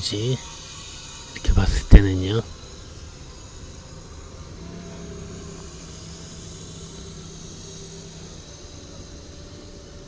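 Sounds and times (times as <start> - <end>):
forklift engine droning: 0.0 - 10.0.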